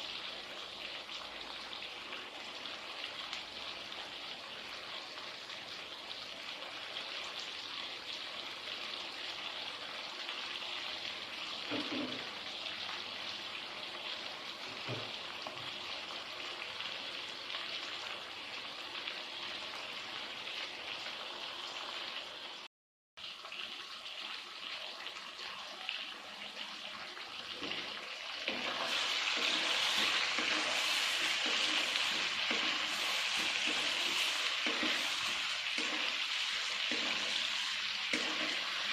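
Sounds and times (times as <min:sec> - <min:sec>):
chicken sizzling in a frying pan: 0:00.0 - 0:22.7, 0:23.3 - 0:38.9.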